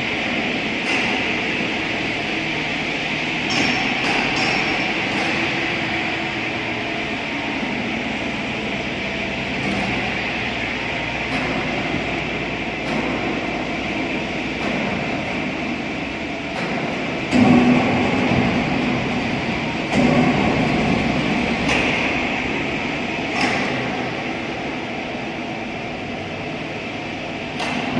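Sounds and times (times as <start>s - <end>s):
industrial roar and hum: 0.0s - 27.9s.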